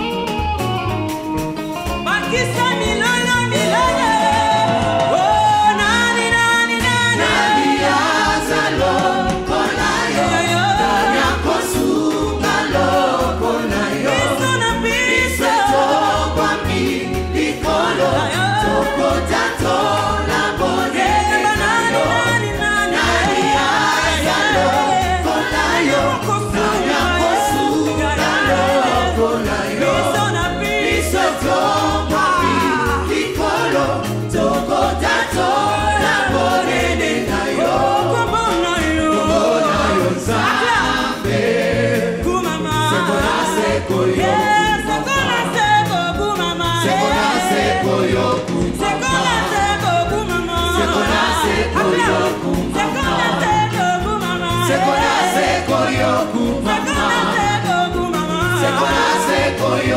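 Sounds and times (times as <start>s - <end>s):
band playing steady beat: 0.0s - 59.9s
lead singer on microphone: 2.0s - 59.9s
choir singing: 3.4s - 59.9s.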